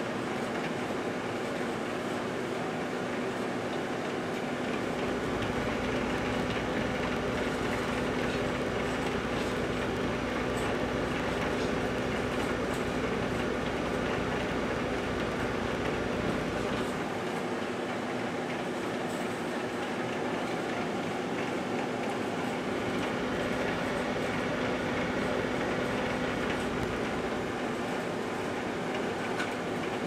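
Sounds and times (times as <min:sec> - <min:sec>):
microwave oven humming: 0:02.8 - 0:30.0.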